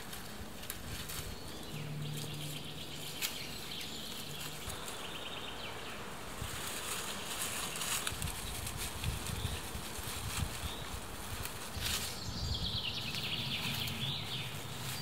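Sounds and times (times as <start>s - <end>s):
dry twigs rustling and crackling: 0.0s - 15.0s.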